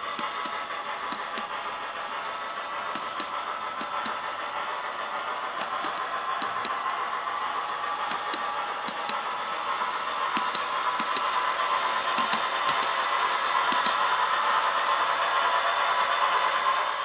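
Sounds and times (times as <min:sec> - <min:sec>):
wheels ticking over track joints: 0:00.0 - 0:15.0
electric locomotive hum and whir: 0:00.0 - 0:17.0.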